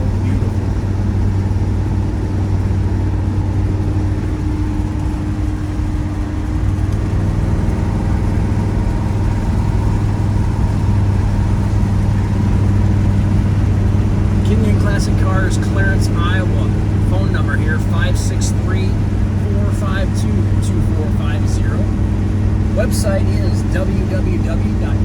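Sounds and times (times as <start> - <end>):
car engine running inside cab: 0.0 - 25.0.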